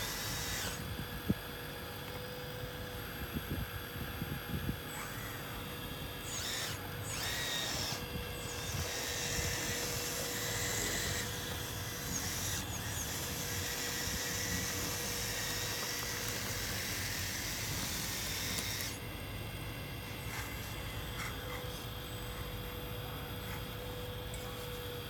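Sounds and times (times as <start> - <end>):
electric pump motor whining: 0.0 - 25.0.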